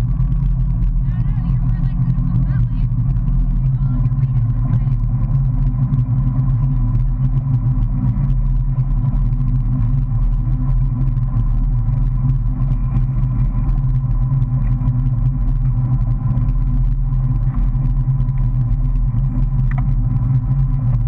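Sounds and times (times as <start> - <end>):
motorboat engine rumble: 0.0 - 21.0.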